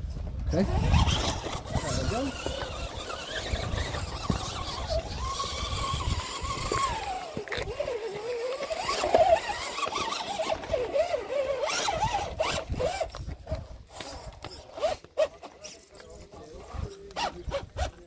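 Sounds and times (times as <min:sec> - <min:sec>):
electric motor whining: 0:00.5 - 0:18.0.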